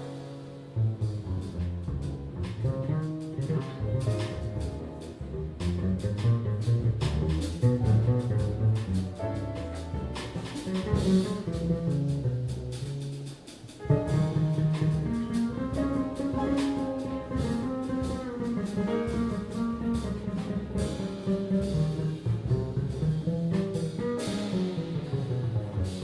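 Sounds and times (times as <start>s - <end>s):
live jazz band playing: 0.0s - 26.0s.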